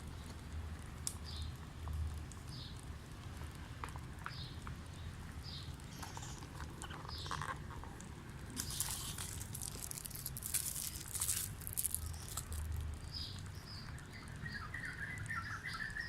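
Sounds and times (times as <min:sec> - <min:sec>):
water bubbling and crackling: 0:00.0 - 0:16.0.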